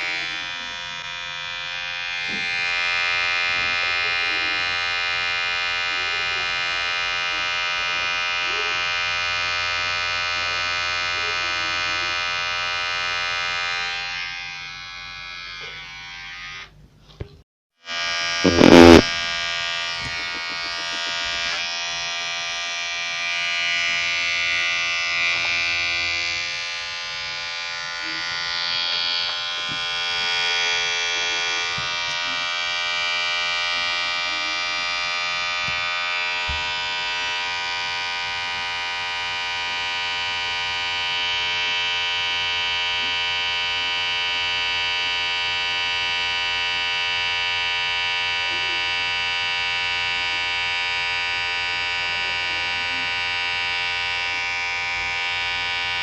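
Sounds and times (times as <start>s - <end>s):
electric hair clipper buzzing: 0.0s - 16.8s, 17.8s - 56.0s.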